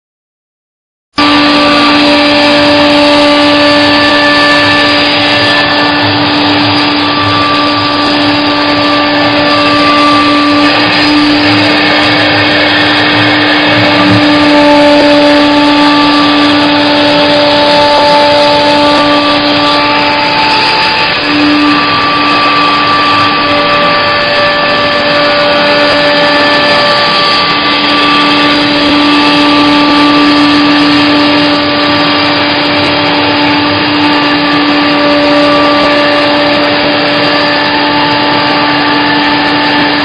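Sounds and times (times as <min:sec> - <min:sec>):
cnc router spindle whine: 0:01.2 - 0:40.0
router cutting wood: 0:01.2 - 0:40.0.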